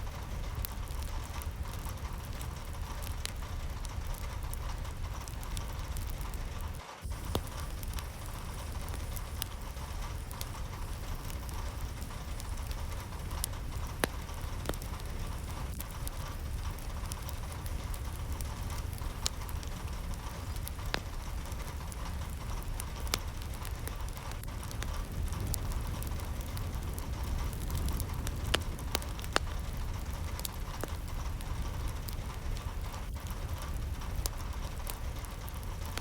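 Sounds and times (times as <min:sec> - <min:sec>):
low rumble: 0:00.0 - 0:36.0
steady rainfall: 0:00.0 - 0:36.0.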